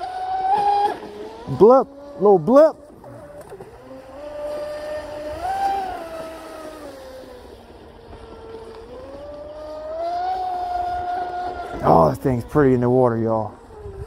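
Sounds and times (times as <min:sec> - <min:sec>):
electric boat motor whine: 0:00.0 - 0:14.0.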